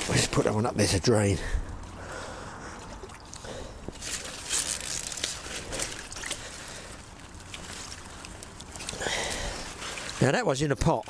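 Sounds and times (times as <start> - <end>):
pond water splashing: 1.7 - 11.0.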